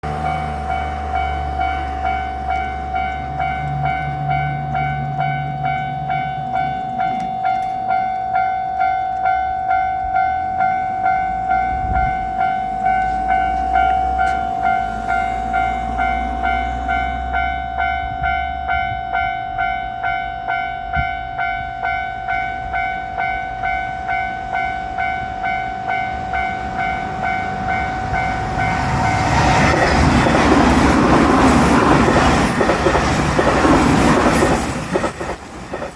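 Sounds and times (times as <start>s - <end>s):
level-crossing bell clanging: 0.0s - 35.9s
train passing: 0.0s - 35.9s.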